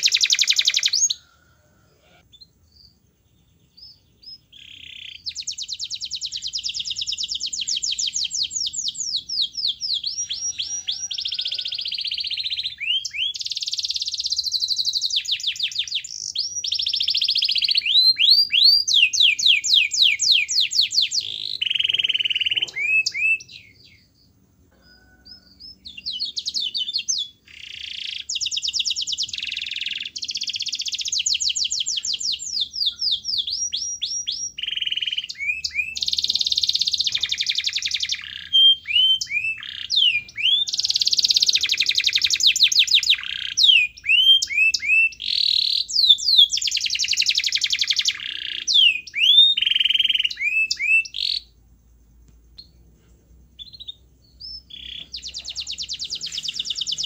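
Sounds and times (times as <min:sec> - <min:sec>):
canary singing: 0:00.0 - 0:51.6, 0:52.6 - 0:57.0.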